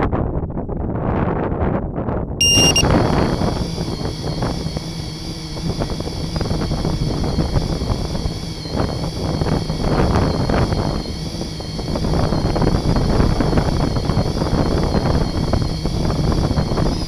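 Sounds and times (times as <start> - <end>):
wind rush on microphone: 0.0 - 17.0
drone motors whining: 2.4 - 17.0.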